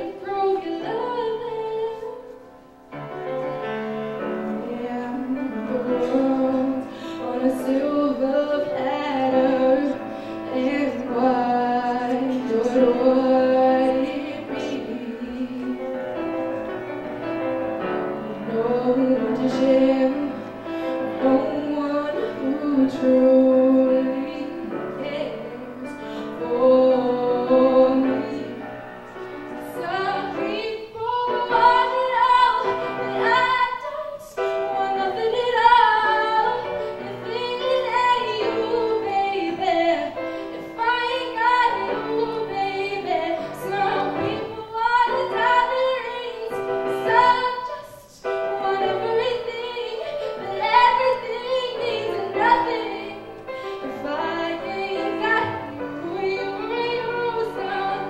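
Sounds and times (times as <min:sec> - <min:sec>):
piano chords: 0:00.0 - 0:58.0.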